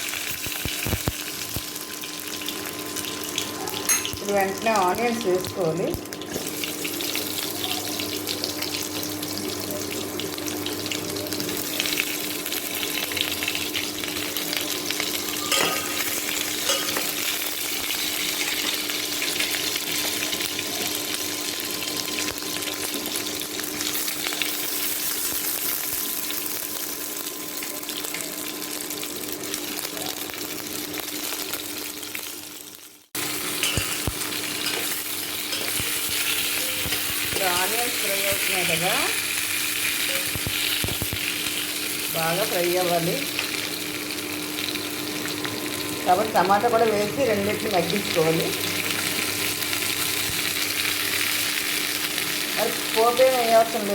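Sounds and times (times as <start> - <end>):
onions sizzling in oil: 0.0 - 53.9.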